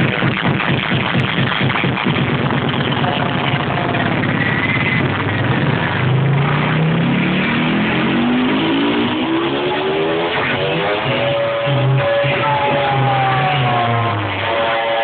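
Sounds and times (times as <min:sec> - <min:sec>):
electronic house music: 0:00.0 - 0:15.0
buzzy synth rising in pitch: 0:02.1 - 0:15.0.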